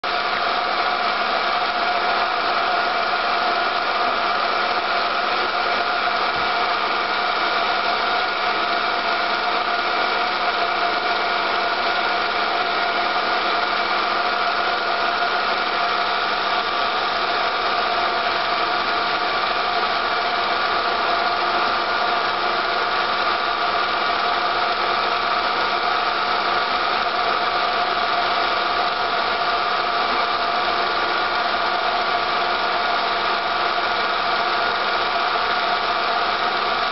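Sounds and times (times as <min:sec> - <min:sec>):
film projector whirring: 0:00.0 - 0:36.9.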